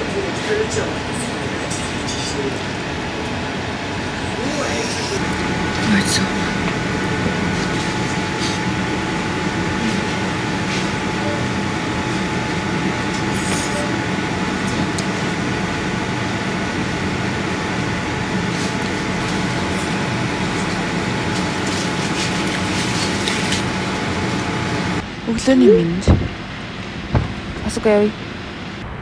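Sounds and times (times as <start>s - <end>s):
steady mechanical hum and hiss: 0.0s - 29.0s.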